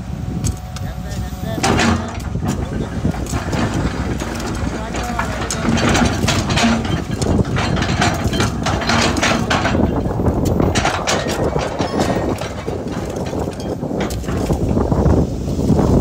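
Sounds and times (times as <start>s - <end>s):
excavator diesel engine rumble: 0.0s - 16.0s
earth knocking against bucket: 1.6s - 15.1s.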